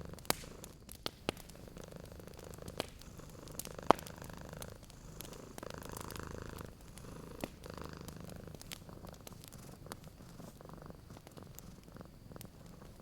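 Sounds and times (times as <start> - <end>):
cat purring: 0.0 - 13.0
wood fire crackling: 0.0 - 13.0.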